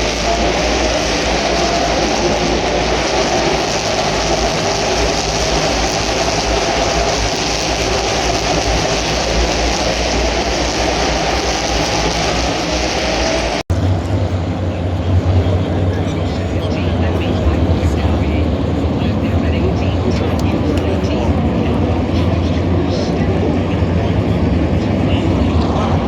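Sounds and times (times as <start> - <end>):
race car engines roaring: 0.0 - 26.0.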